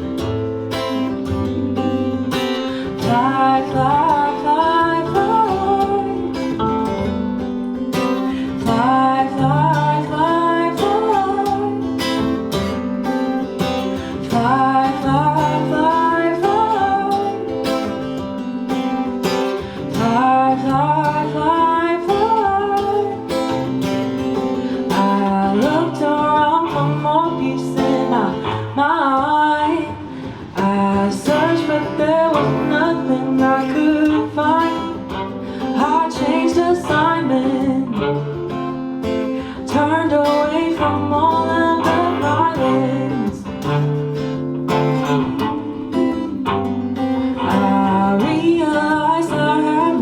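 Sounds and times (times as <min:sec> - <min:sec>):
strummed acoustic guitar: 0:00.0 - 0:50.0
woman singing: 0:00.0 - 0:50.0.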